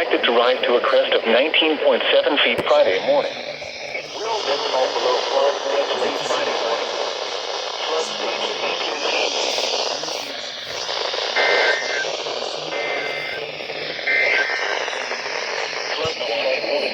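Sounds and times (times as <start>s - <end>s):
radio static: 0.0s - 16.9s
two-tone data bursts: 0.9s - 16.9s.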